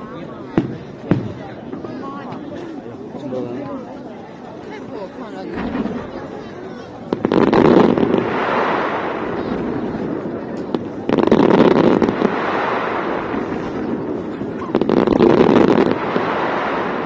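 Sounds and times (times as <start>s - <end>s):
fireworks bursting: 0.4s - 2.8s, 5.4s - 17.0s
fireworks crackling: 0.4s - 3.3s, 4.6s - 17.0s.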